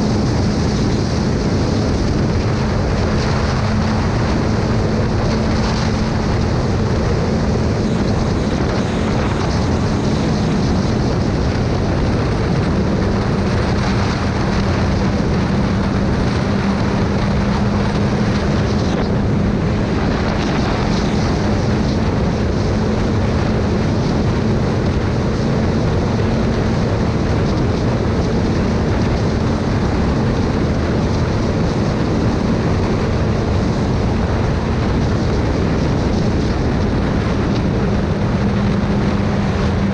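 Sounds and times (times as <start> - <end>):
motorcycle engine droning: 0.0 - 39.9
wind noise on microphone: 0.0 - 39.9.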